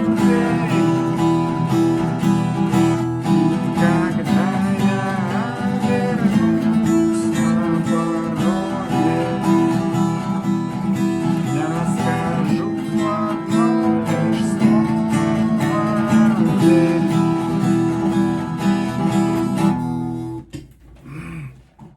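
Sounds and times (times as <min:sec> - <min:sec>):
acoustic guitar strumming: 0:00.0 - 0:20.5.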